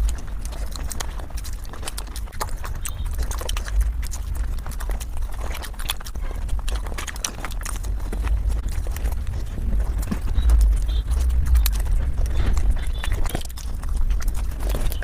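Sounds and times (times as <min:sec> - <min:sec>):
chewing clicks and mouth smacks: 0:00.0 - 0:15.0
steady low hum: 0:00.0 - 0:15.0.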